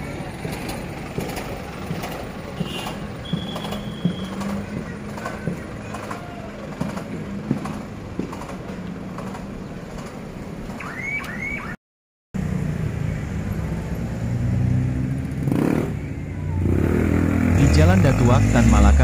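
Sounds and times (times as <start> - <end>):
steady engine hum: 0.0 - 10.9, 12.4 - 19.0
vehicle engines running: 0.0 - 11.5, 12.4 - 19.0.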